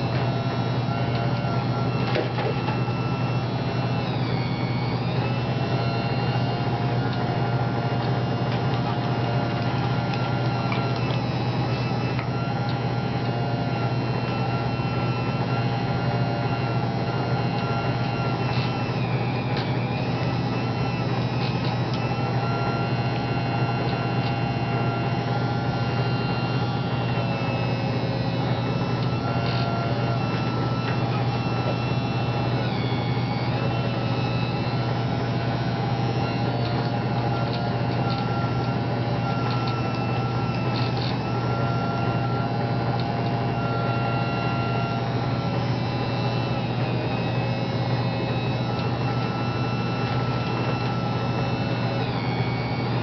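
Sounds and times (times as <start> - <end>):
motor whines shifting in pitch: 0.0 - 53.0
small electric motors humming: 0.0 - 53.0.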